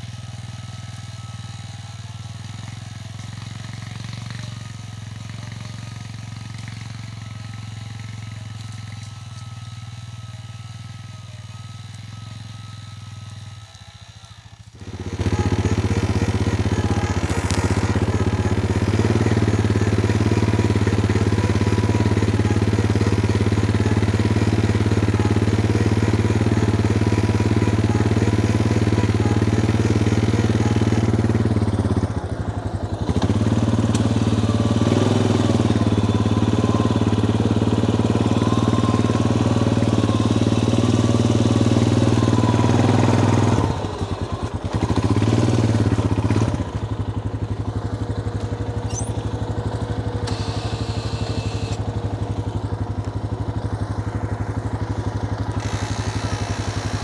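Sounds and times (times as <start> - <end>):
atv engine idling: 0.0 - 57.0.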